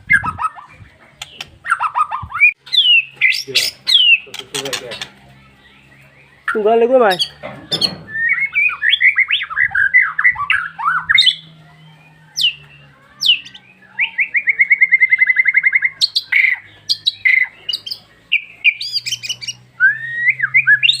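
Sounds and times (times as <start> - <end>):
songbird chirps and whistles: 0.0 - 4.4, 5.5 - 21.0
bird trill: 0.0 - 21.0.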